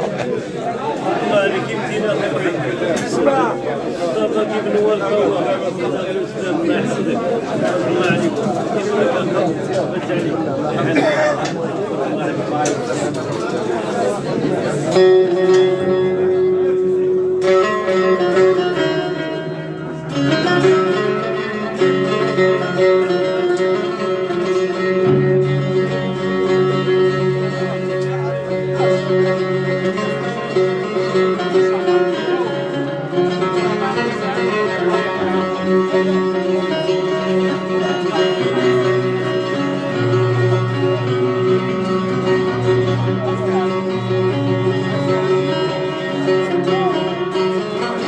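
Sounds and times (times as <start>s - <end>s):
plucked string instruments: 0.0s - 48.0s.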